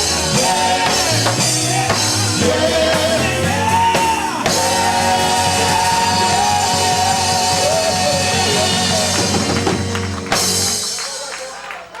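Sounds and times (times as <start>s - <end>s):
gospel group singing: 0.0s - 10.8s
band with drums: 0.0s - 11.7s.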